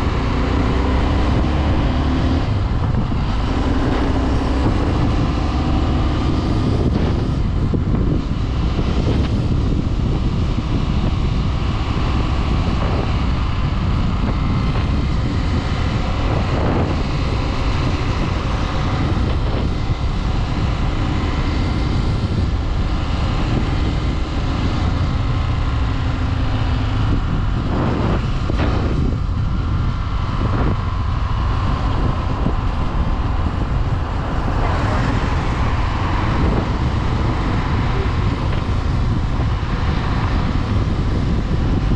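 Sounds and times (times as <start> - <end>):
motorcycle engine running: 0.0 - 41.9
wind rumble on microphone: 0.0 - 41.9.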